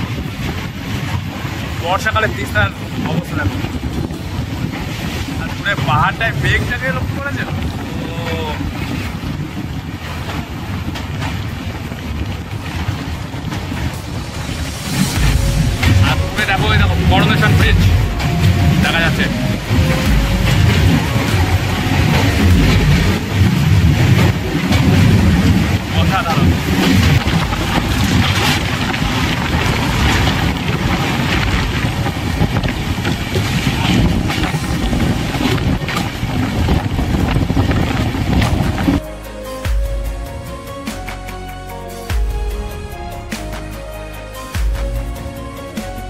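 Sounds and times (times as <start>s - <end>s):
wind buffeting microphone: 0.0s - 39.1s
passenger train rumbling: 0.0s - 42.0s.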